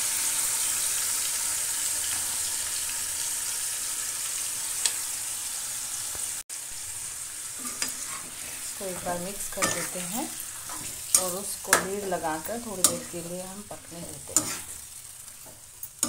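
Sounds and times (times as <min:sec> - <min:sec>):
chicken frying in hot oil: 0:00.0 - 0:16.0.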